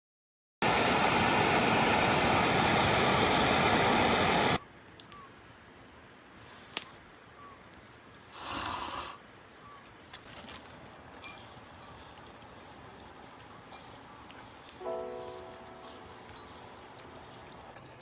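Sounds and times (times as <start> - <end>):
soft hiss: 0.7 - 18.0.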